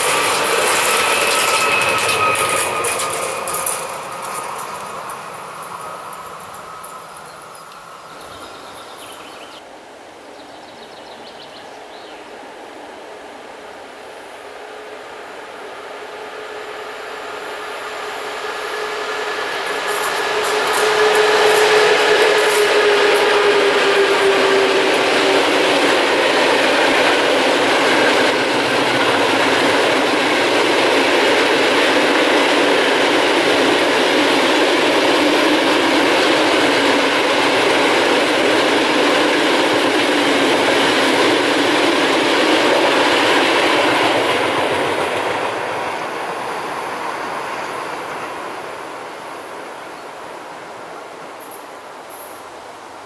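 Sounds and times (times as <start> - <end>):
wheels rattling on rails: 0.0 - 9.6, 16.5 - 52.3
freight train rumbling past: 0.0 - 9.8, 10.7 - 53.0.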